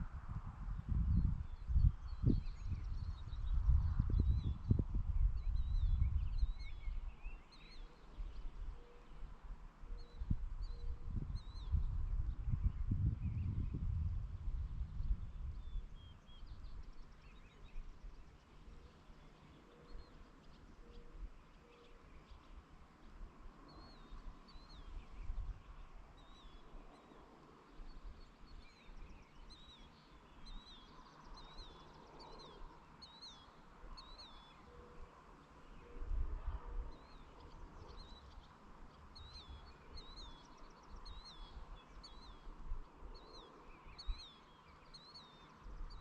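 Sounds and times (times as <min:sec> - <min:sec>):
small birds chirping: 0:00.8 - 0:46.0.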